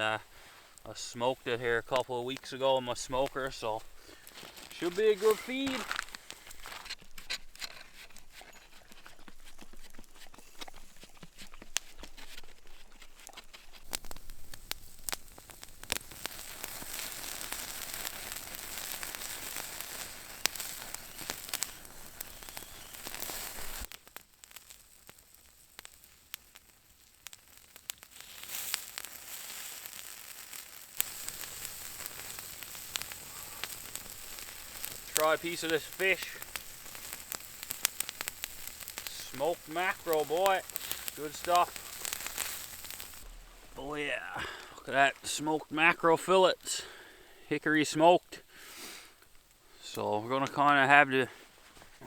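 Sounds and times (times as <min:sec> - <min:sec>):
campfire crackling and popping: 0:00.0 - 0:52.0
food sizzling: 0:00.0 - 0:52.0.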